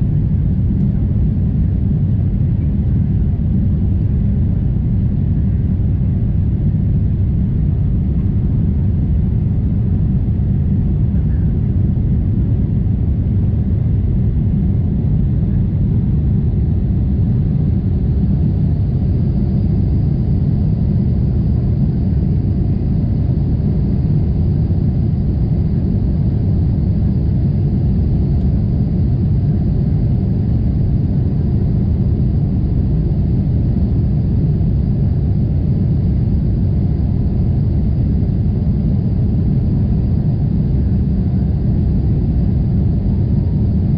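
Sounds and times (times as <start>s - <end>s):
airplane cabin rumble: 0.0s - 43.9s.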